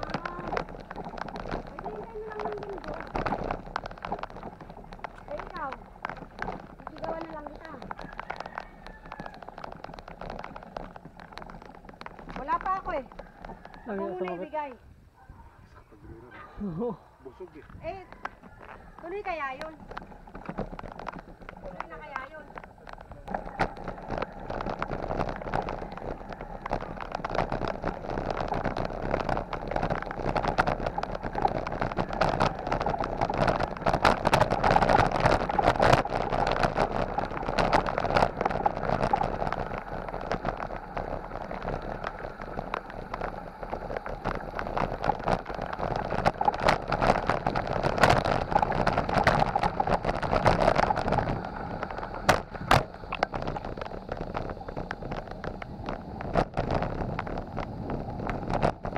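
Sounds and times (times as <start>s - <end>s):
bicycle rushing noise: 0.0s - 14.8s, 17.2s - 58.9s
tyres clicking on stones: 0.0s - 14.8s, 17.6s - 58.9s.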